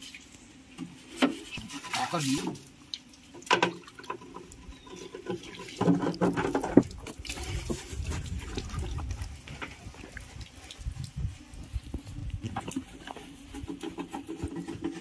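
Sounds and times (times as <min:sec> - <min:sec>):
water splashing and running off: 0:00.0 - 0:15.0.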